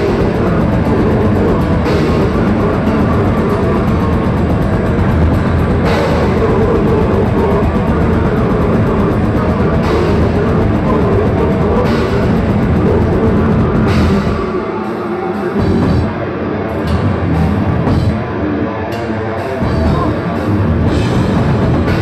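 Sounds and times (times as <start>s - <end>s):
band stop-start hits: 0.0s - 18.3s
bass guitar: 0.0s - 22.0s
drum kit: 0.0s - 22.0s
electric guitars: 0.0s - 22.0s.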